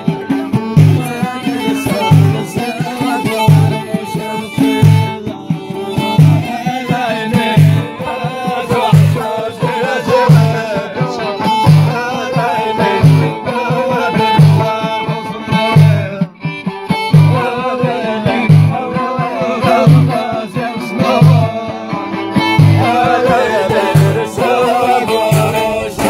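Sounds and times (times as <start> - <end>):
deep frame drum beat: 0.0 - 26.0
men singing: 0.0 - 26.0
plucked lute: 0.0 - 26.0
violin: 0.0 - 26.0.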